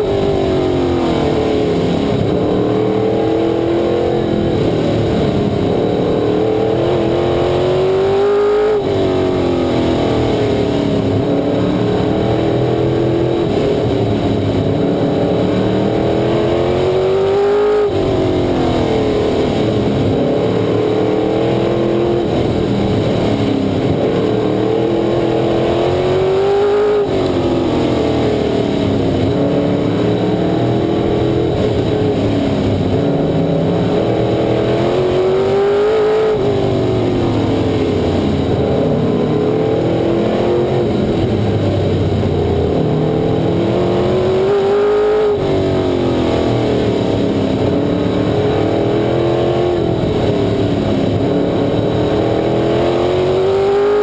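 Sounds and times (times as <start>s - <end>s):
race car engine: 0.0s - 54.0s.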